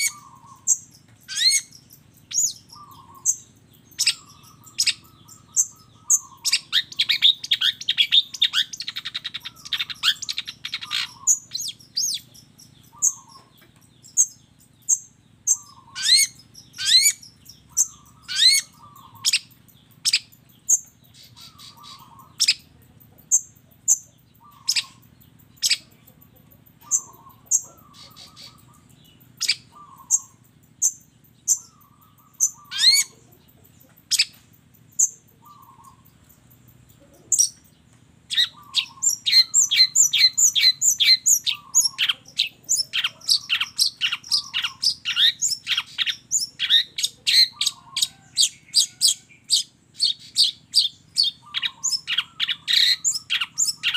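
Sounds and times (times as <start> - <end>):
bird chattering rapidly: 0.0 - 53.9
shrike singing: 0.0 - 53.9.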